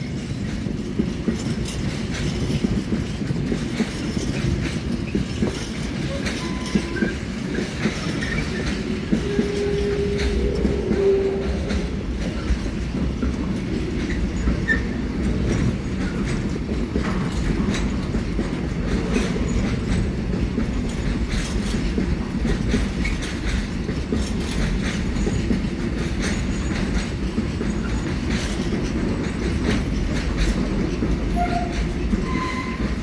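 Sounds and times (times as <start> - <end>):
freight train rumbling past: 0.0 - 33.0
wheels clattering on rails: 0.0 - 33.0.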